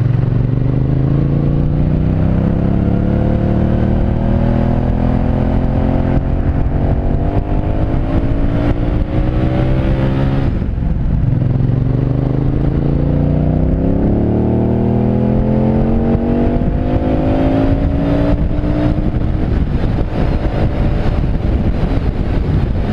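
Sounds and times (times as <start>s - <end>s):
motorcycle engine accelerating: 0.0s - 22.9s.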